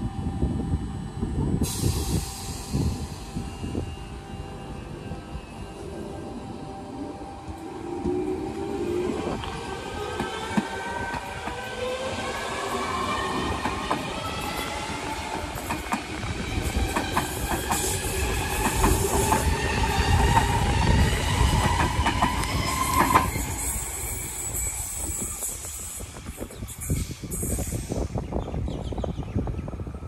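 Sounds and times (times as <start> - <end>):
train rumble: 0.0 - 30.0
electric train motors whining: 2.2 - 26.4.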